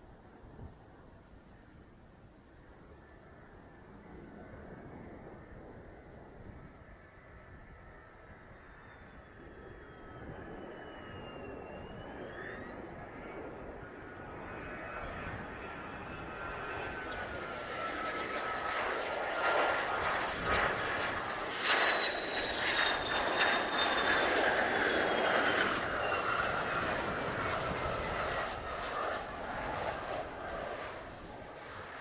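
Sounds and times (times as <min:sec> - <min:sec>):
jet engine flying past: 0:02.5 - 0:32.0.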